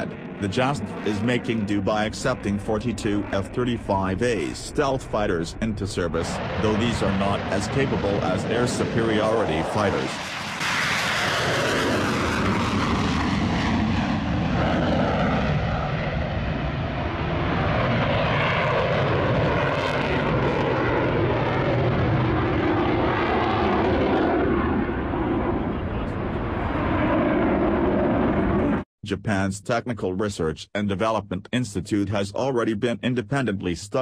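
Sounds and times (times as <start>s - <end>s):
jet taking off: 0.0s - 28.9s.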